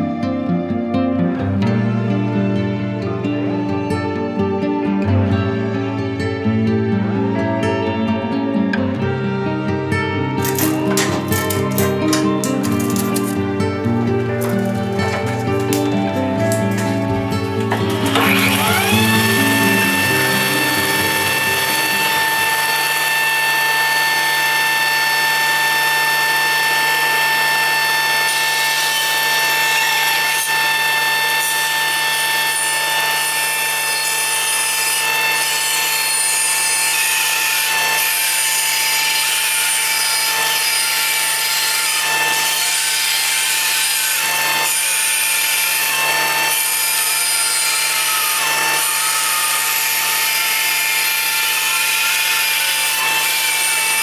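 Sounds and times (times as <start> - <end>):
band saw cutting wood: 10.3 - 54.0.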